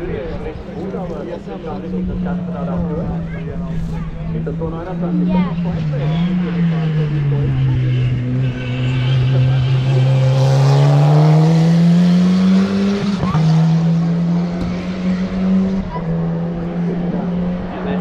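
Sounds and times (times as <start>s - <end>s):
race car engine accelerating: 1.2s - 18.0s.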